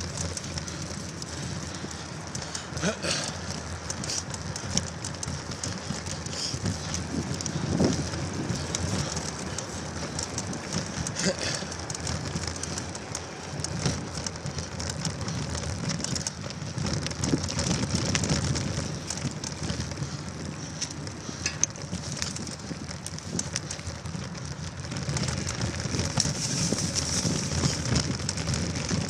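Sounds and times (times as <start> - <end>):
crackling rustling movement noise: 0.0 - 29.0.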